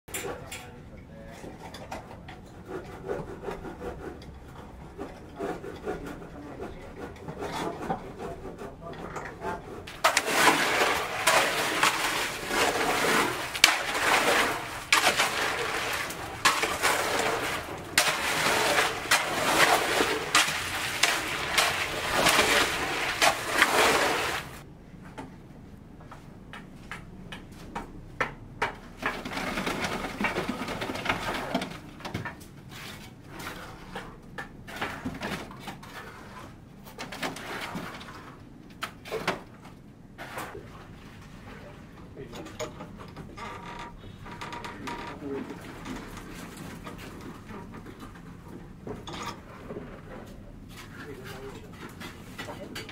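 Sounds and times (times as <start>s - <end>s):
tools scraping through concrete mix: 0.1s - 24.7s, 29.0s - 39.4s, 44.0s - 52.9s.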